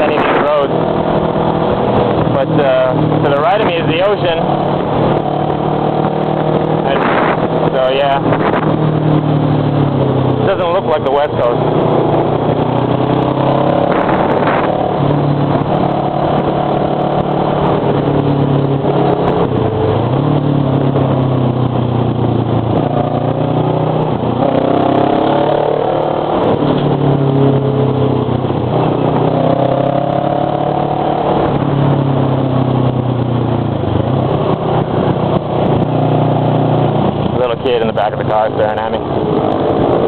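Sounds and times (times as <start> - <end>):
motorcycle engine accelerating: 0.0 - 40.0
wind and road noise: 0.0 - 40.0.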